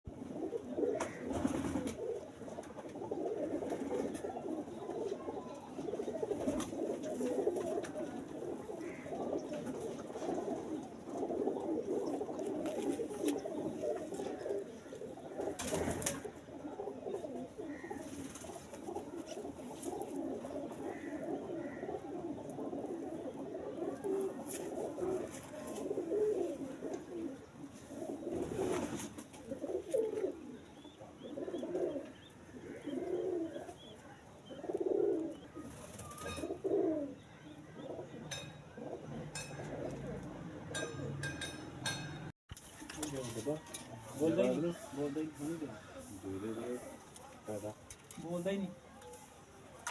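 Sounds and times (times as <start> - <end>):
pigeons cooing: 0.1 - 49.9.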